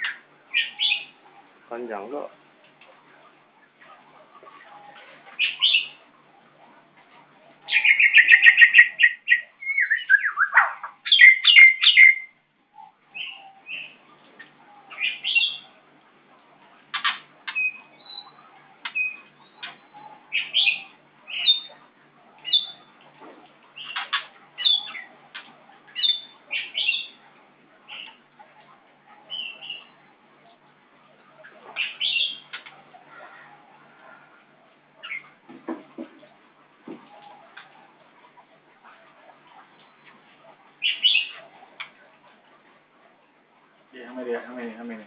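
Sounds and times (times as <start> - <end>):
bird singing and calling: 0.0 - 2.3, 3.4 - 6.5, 7.4 - 15.9, 16.5 - 35.4, 37.0 - 42.5.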